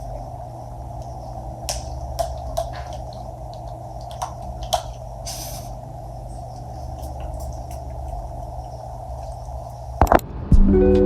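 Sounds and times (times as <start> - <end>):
perfume spray hiss: 0.0 - 10.0
steady hum: 0.0 - 11.0.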